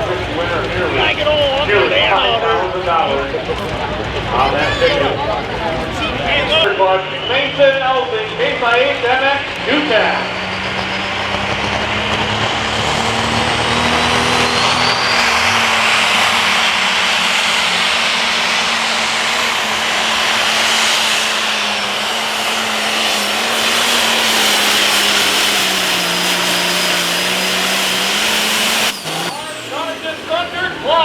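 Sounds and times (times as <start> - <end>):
tractor engine under load: 0.0 - 31.0
turbo whine: 5.9 - 31.0.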